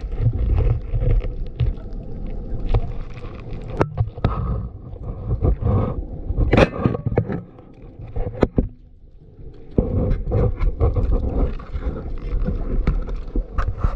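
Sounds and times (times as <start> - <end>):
underwater clicks: 0.0 - 13.9.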